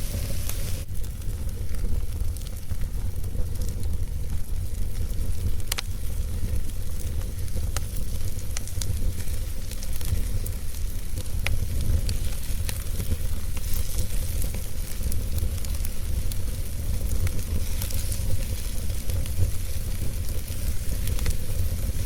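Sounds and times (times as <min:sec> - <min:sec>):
fire hiss and low rumble: 0:00.0 - 0:22.0
wood fire crackling and popping: 0:00.0 - 0:22.0.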